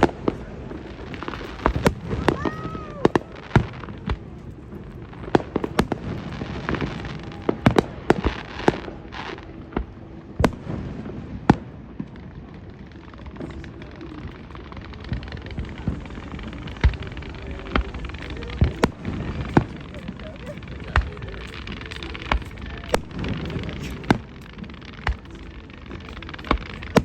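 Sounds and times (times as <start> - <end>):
faint fireworks pops: 0.0 - 27.0
fireworks bursting: 0.0 - 27.0.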